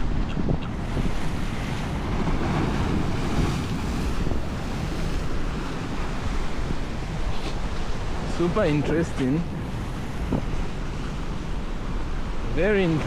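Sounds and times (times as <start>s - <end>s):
surf breaking on shore: 0.0s - 13.0s
wind buffeting microphone: 0.0s - 13.0s.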